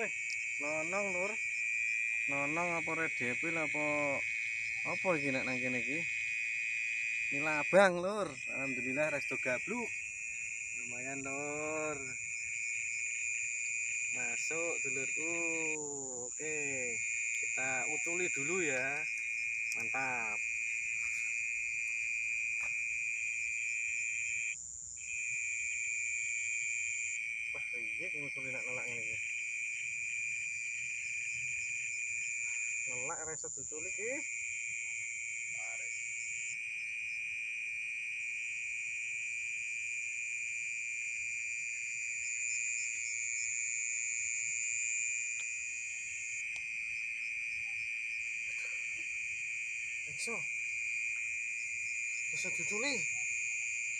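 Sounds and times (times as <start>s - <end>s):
night insects chirring: 0.0s - 53.9s.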